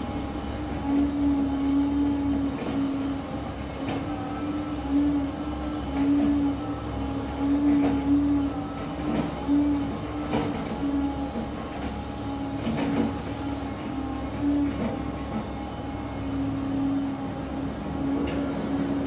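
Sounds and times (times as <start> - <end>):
excavator diesel engine running: 0.0 - 19.0
hydraulic whine: 0.0 - 19.0.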